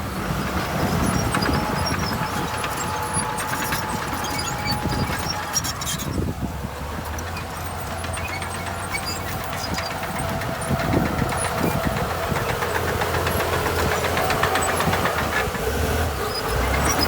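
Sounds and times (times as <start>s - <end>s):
heavy diesel engine running: 0.0s - 17.0s
metallic rattles and knocks: 0.3s - 17.0s.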